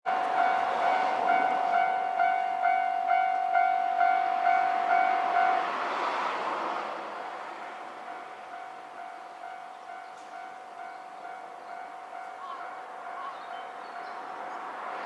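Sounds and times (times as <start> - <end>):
level crossing warning bell: 0.1 - 5.8, 7.8 - 14.6.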